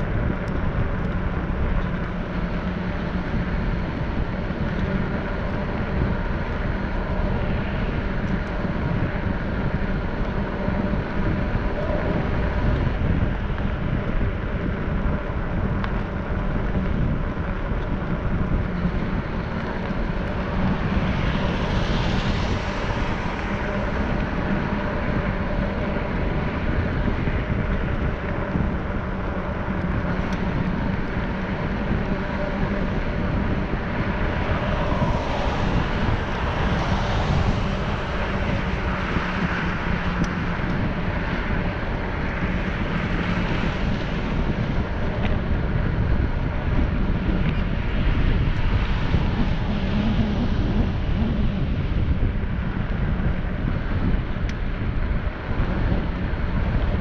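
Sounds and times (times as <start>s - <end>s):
constant low hum: 0.0s - 57.0s
wind rushing: 0.0s - 57.0s
highway traffic passing: 0.1s - 53.8s.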